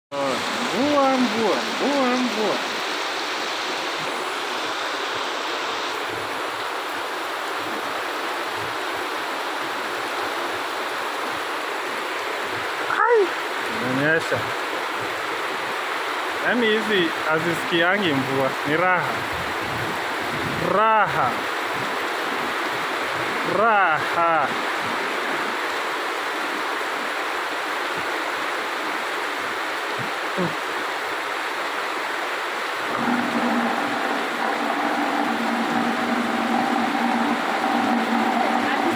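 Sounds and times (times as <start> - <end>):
steady rainfall: 0.1 - 38.9.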